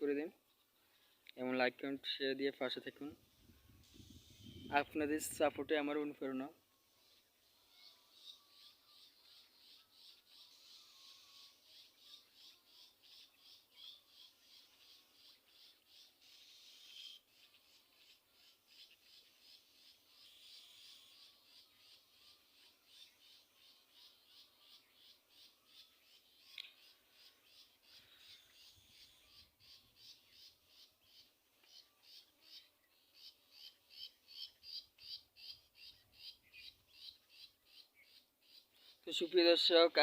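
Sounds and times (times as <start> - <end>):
bird chirping: 0.1 - 6.0, 6.8 - 39.9.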